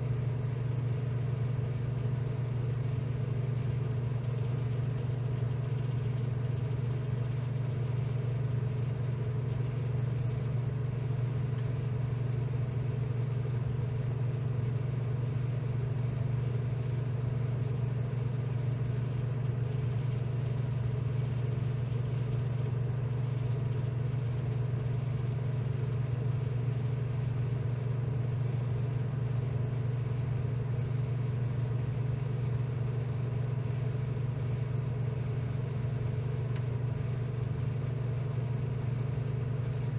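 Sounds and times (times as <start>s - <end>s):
hot-air blower and fans humming: 0.0s - 39.9s.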